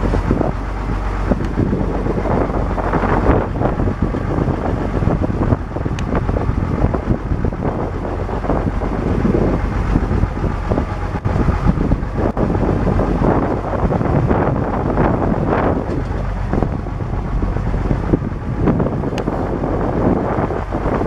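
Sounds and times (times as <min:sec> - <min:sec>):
tractor diesel engine running: 0:00.0 - 0:21.0
wind buffeting microphone: 0:00.0 - 0:21.0.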